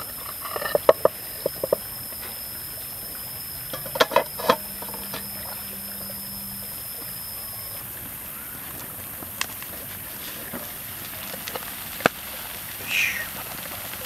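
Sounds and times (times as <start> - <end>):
omelet sizzling in a pan: 0.0 - 14.0
wood fire crackling: 0.0 - 14.0.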